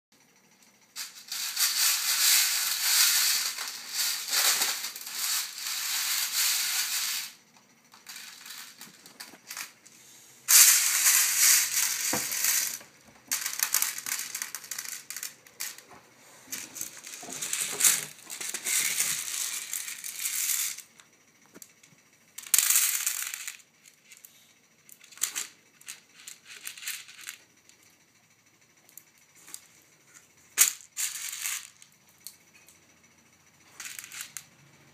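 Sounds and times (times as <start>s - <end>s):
popcorn kernels rattling in metal tray: 0.9s - 9.8s, 10.5s - 21.0s, 22.3s - 24.3s, 24.9s - 27.8s, 30.5s - 32.6s, 33.5s - 34.9s.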